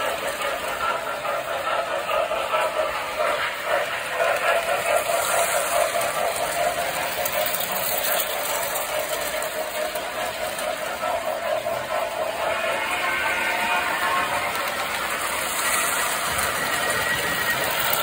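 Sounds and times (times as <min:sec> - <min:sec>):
toy train wheels clattering on rails: 0:00.0 - 0:18.0
mechanical whir: 0:00.1 - 0:18.0.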